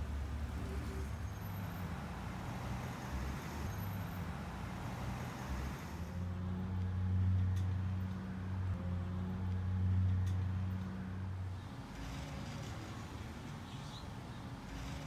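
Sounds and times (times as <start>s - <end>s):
passing cars rumble: 0.0s - 15.0s.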